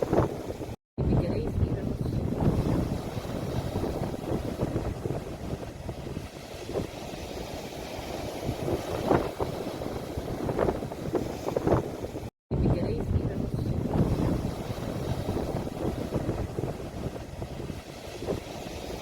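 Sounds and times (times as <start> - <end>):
sea waves washing: 0.0 - 19.0
wave splashes: 0.0 - 19.0
wind buffeting microphone: 0.0 - 19.0.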